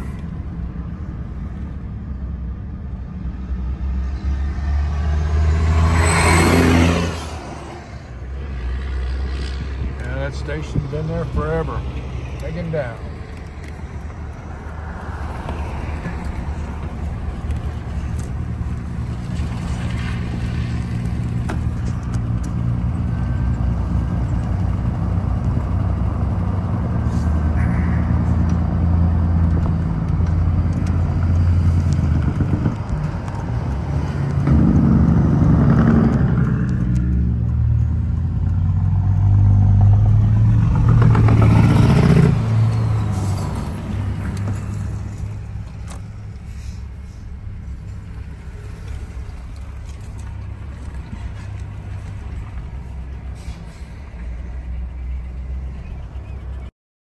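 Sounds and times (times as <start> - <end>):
car engine and road noise: 0.0 - 56.7.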